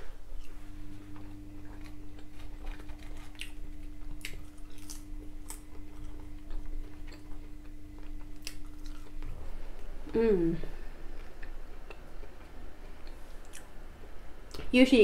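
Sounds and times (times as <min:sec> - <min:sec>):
faint steady hum: 0:00.0 - 0:15.0
person chewing: 0:00.4 - 0:09.9, 0:11.1 - 0:13.8.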